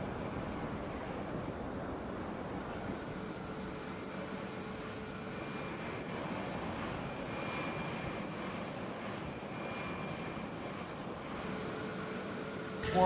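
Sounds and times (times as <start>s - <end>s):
aircraft engine noise: 0.0s - 13.0s
faint high whine: 0.0s - 13.0s.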